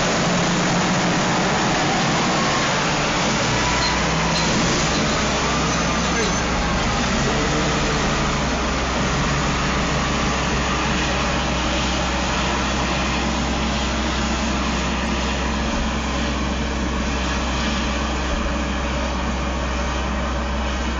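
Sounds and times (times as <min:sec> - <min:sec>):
heavy diesel engines under load: 0:00.0 - 0:20.9.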